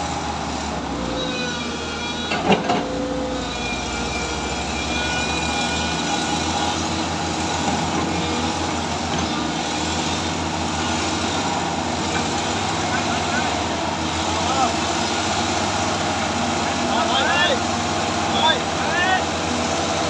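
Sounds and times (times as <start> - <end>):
heavy diesel engines running: 0.0 - 20.0.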